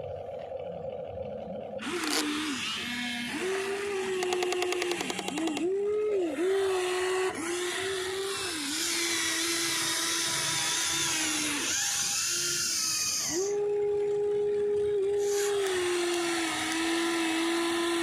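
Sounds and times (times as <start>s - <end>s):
small electric motor whining: 1.8s - 18.0s.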